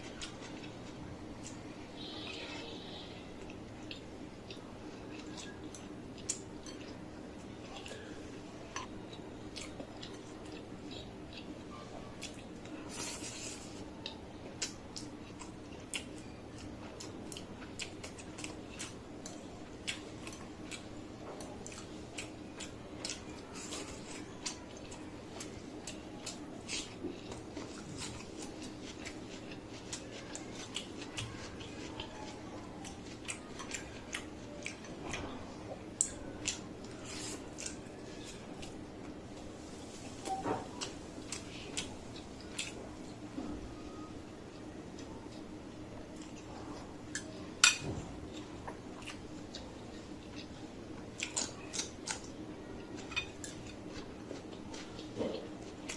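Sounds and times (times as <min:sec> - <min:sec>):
faint steady hum: 0:00.0 - 0:55.9
person chewing food: 0:00.0 - 0:55.9.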